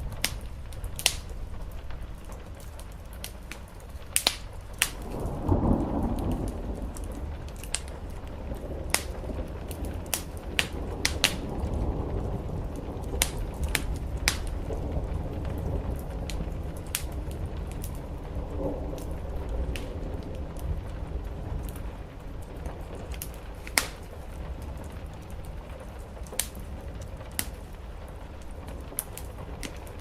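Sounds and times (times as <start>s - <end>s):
rain drumming on a roof: 0.0s - 30.0s
wood fire crackling: 0.0s - 30.0s
low rumble: 3.8s - 30.0s.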